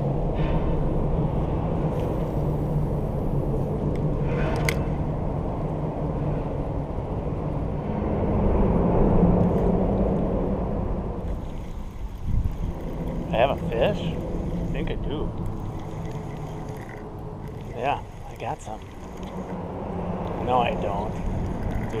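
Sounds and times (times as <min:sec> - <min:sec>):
low rumble of traffic: 0:00.0 - 0:22.0.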